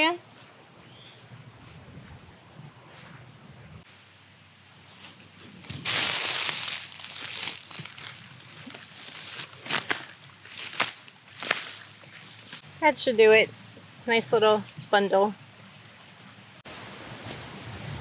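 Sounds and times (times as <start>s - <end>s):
straw and leaves rustling: 0.0s - 18.0s.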